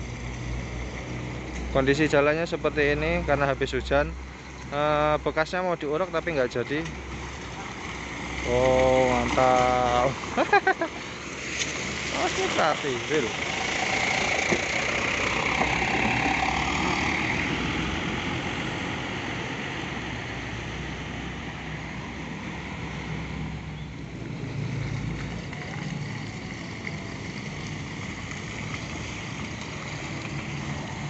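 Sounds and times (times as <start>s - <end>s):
bus engine passing: 0.0s - 31.0s
low engine rumble of vehicles: 0.0s - 31.0s
tyres rolling through puddles: 0.0s - 31.0s.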